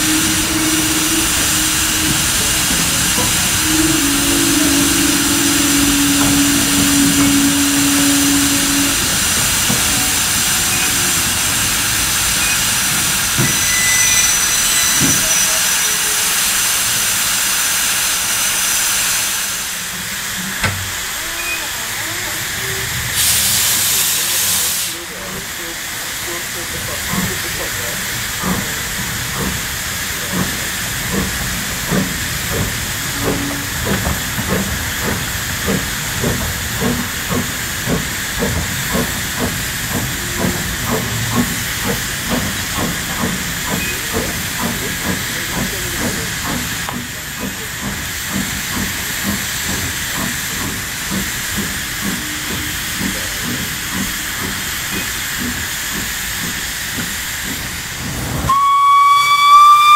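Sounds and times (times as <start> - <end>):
steady steam hiss: 0.0 - 14.1, 15.4 - 58.5
steam locomotive chuffing: 0.0 - 59.9.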